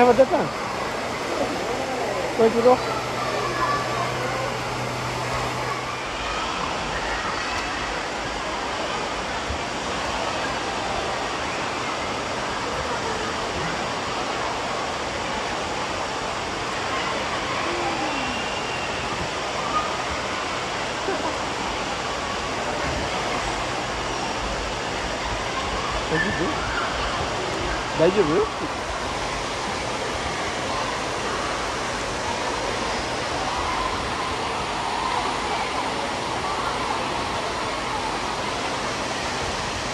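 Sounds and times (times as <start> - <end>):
faint children's voices: 0.0 - 39.9
water rushing and spraying: 0.0 - 39.9.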